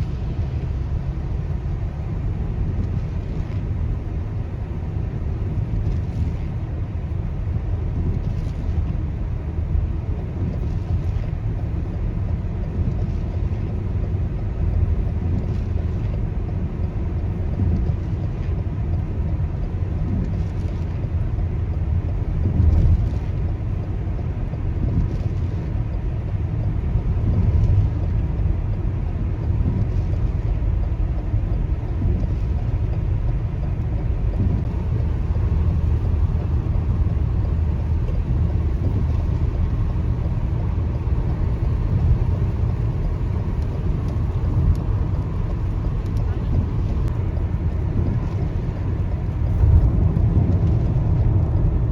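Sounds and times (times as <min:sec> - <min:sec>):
car road and engine rumble: 0:00.0 - 0:51.9
heavy rain on car: 0:00.0 - 0:51.9
windshield wipers sweeping: 0:00.0 - 0:51.9.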